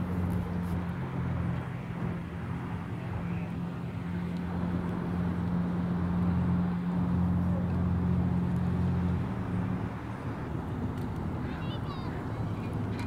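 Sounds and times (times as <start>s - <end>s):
engine droning hum: 0.0s - 13.0s.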